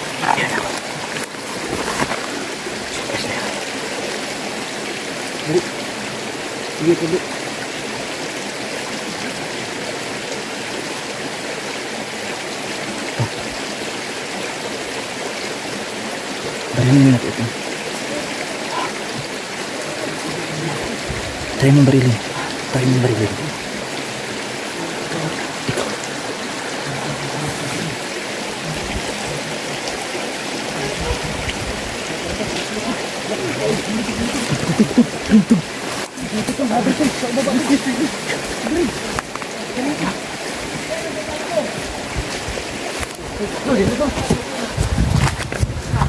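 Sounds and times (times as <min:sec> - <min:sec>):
creek running: 0:00.0 - 0:46.0.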